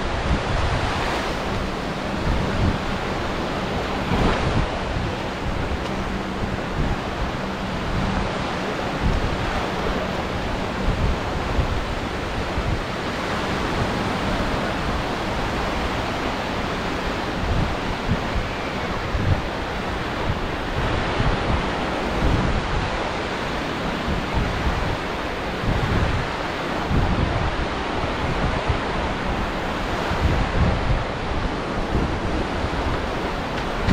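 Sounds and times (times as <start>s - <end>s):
surf washing onto beach: 0.0s - 33.9s
wind buffeting microphone: 0.0s - 33.9s.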